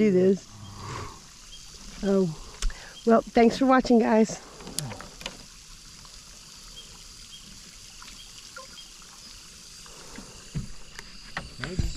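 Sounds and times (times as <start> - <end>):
steady low hiss: 0.0 - 11.9.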